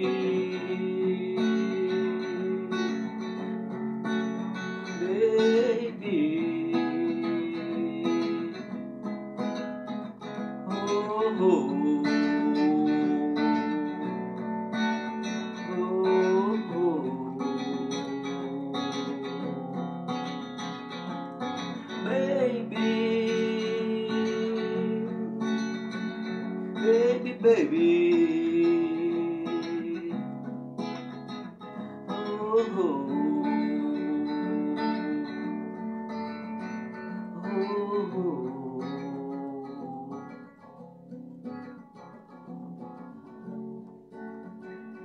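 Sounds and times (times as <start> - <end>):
man singing: 0.0 - 30.6, 31.2 - 41.6
acoustic guitar strumming: 0.0 - 45.0.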